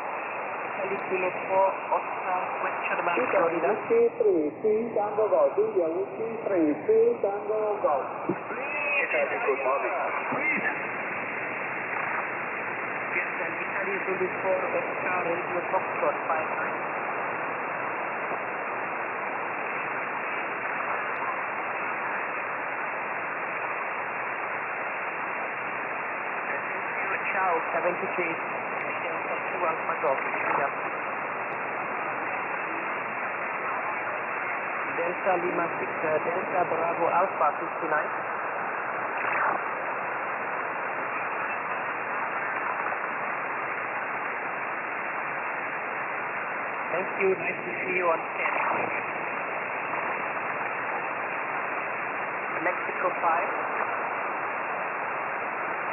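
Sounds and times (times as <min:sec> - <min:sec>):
radio receiver static hiss: 0:00.0 - 0:55.9.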